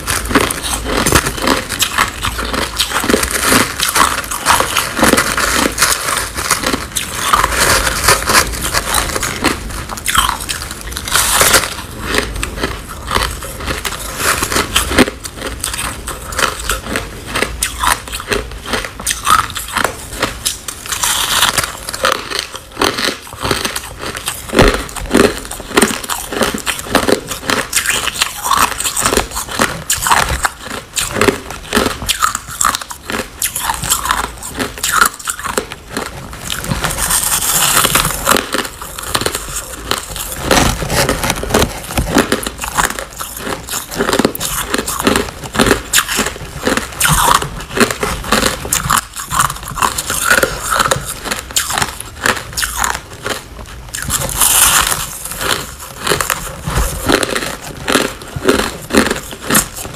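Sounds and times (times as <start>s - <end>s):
person crunching ice: 0.0s - 59.9s.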